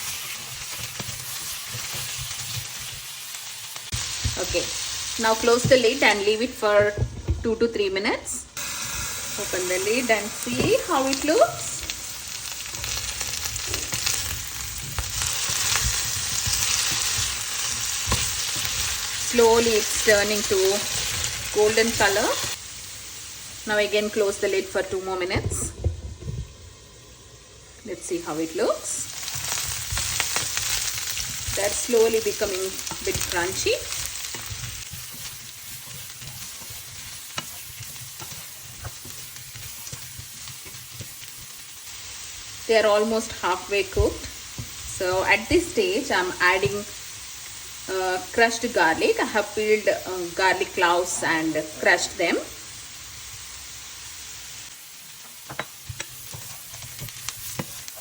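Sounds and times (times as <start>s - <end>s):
potatoes sizzling in hot oil: 0.0s - 7.9s, 8.6s - 58.0s.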